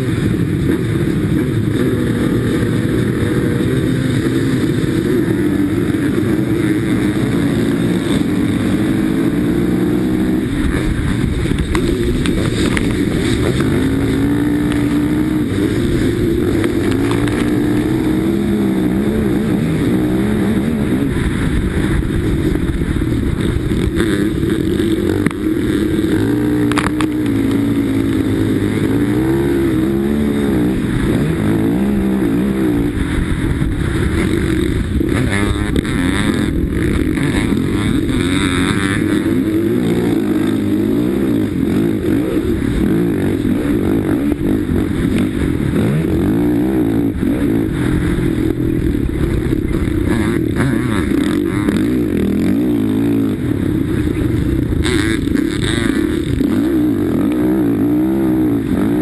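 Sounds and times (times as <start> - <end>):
other sidecar engines: 0.0 - 59.0
racing sidecar engine at high revs: 0.0 - 59.0.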